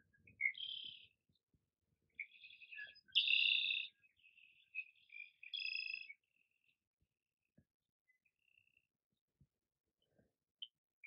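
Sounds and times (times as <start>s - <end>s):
songbirds singing: 0.0s - 9.4s.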